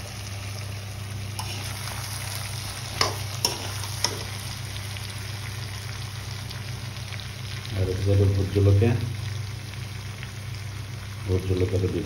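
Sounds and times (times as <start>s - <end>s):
pork and potatoes sizzling in a wok: 0.0s - 12.0s.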